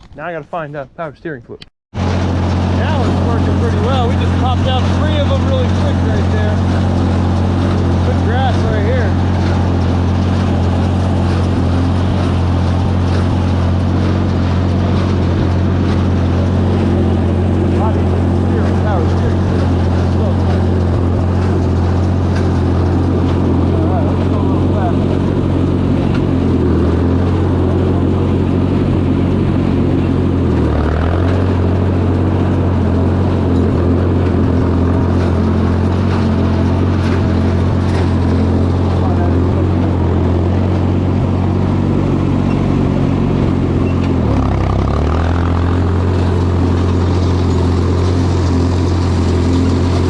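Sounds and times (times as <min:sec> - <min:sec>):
tractor engine running: 0:01.9 - 0:50.0
hay baler running: 0:02.0 - 0:50.0.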